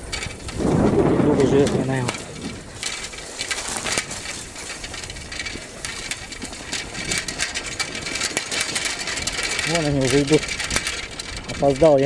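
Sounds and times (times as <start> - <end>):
bicycle rattling over bumps: 0.0 - 12.0
wind and tyres hissing: 0.0 - 12.0.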